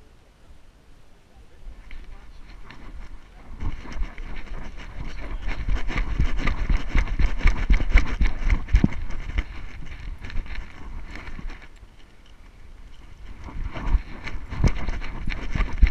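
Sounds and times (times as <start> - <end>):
wind on microphone: 1.5 - 15.9.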